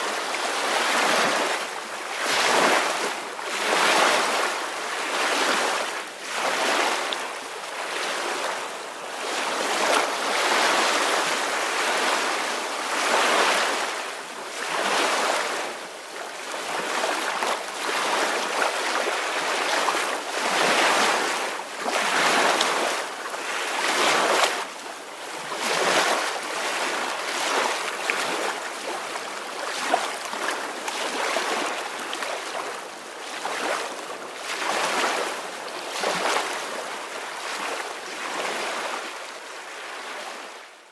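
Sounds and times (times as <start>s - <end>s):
ocean waves washing ashore: 0.0s - 40.8s.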